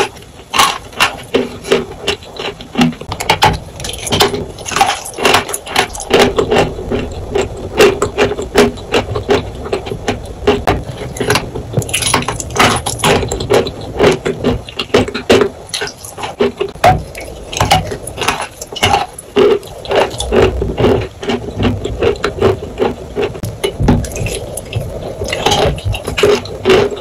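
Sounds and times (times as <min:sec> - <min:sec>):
crunching and chewing chalk: 0:00.0 - 0:27.0.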